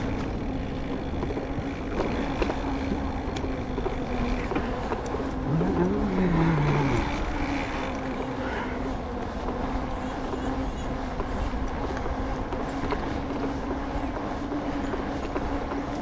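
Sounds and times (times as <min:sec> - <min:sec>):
bike tyres humming on wet pavement: 0:00.0 - 0:16.0
rushing wind: 0:00.0 - 0:16.0.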